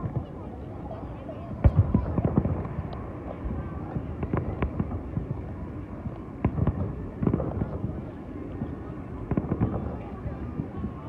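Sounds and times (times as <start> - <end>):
distant fireworks bangs and crackles: 0.0 - 11.0.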